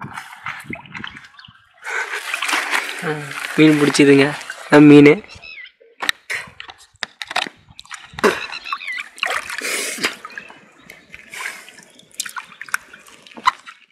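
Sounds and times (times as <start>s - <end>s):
water sloshing: 0.0s - 13.9s.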